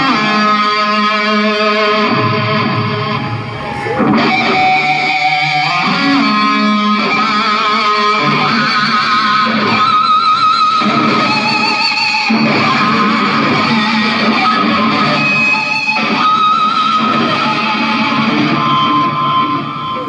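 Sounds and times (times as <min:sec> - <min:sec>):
electric guitar solo with vibrato: 0:00.0 - 0:20.0.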